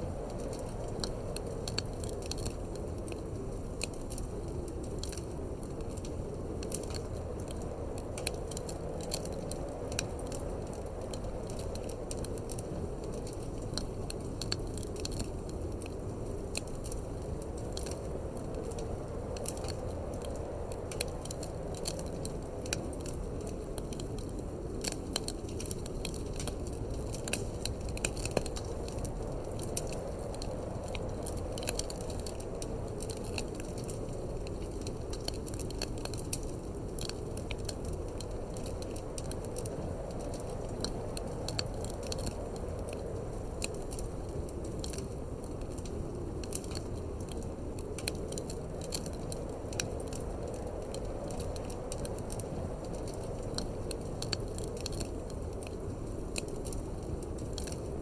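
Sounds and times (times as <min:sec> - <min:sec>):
low rush of wind: 0:00.0 - 0:58.0
wood fire crackling: 0:00.0 - 0:58.0.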